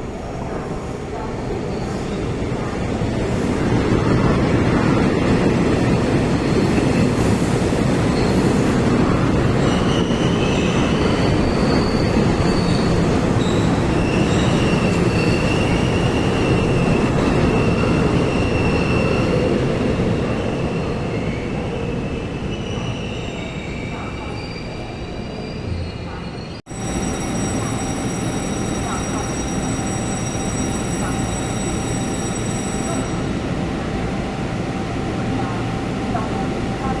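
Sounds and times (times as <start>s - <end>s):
train wheels rumbling on rail: 0.0s - 25.0s, 25.9s - 37.0s.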